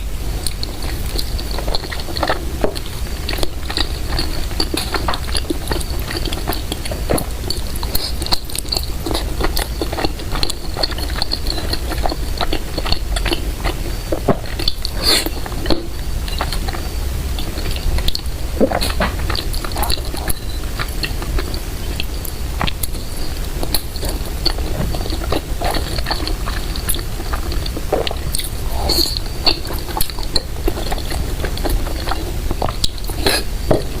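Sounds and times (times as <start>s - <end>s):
chewing and biting food: 0.0s - 34.0s
steady low hum: 0.0s - 34.0s.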